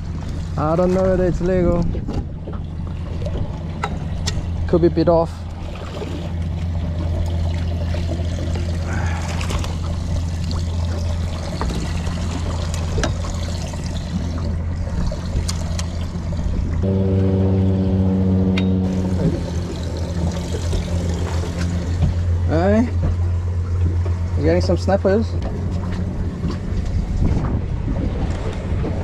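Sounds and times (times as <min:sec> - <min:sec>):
steady low hum: 0:00.0 - 0:29.0
water splashing against boat hull: 0:00.0 - 0:29.0.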